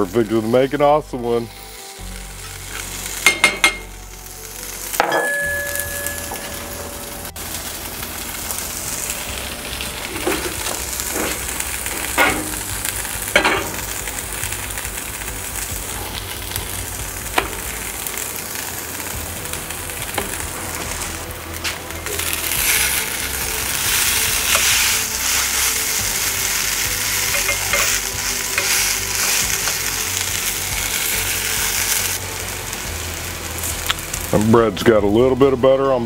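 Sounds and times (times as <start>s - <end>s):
potatoes sizzling in a skillet: 0.0s - 35.8s.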